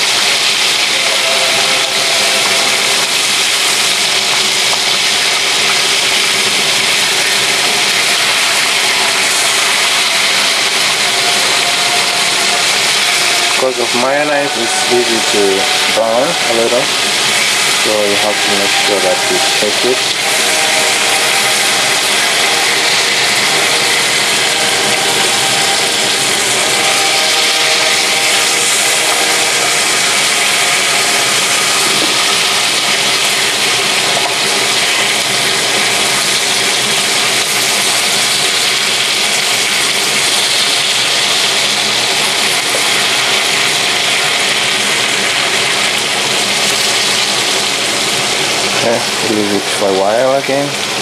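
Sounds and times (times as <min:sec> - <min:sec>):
fish frying in sizzling oil: 0:00.0 - 0:51.0.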